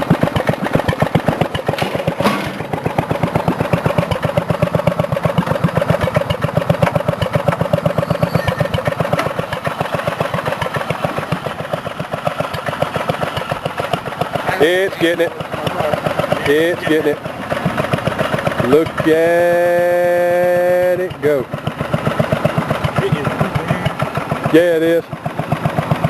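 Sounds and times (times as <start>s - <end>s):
lawn mower engine idling: 0.0s - 26.0s.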